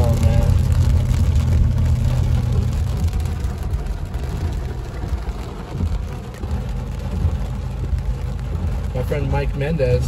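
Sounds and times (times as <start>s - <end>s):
car engine and tyres rumbling: 0.0s - 10.0s
rain falling on car: 0.0s - 10.0s.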